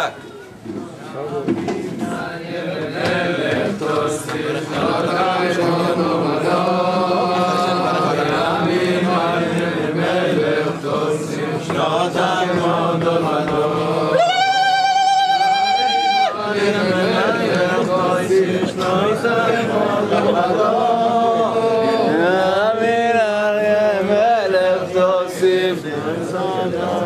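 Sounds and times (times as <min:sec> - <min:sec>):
men singing in unison: 0:00.8 - 0:27.0.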